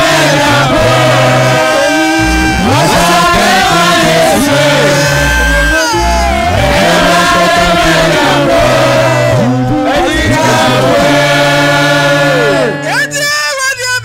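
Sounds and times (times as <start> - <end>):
group singing through pa: 0.0 - 13.0
low held bass notes: 0.0 - 13.1.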